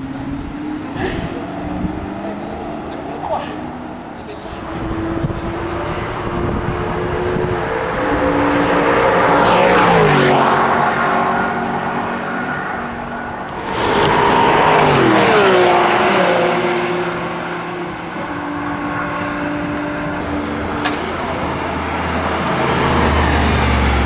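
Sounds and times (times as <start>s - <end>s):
deep low engine rumble: 0.0s - 12.0s, 12.8s - 24.0s
sports car passing at speed: 0.0s - 24.0s.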